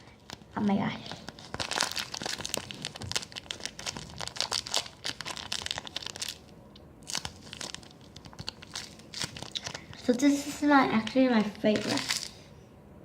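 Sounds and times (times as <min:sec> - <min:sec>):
squishy toy crinkling: 0:00.0 - 0:12.4.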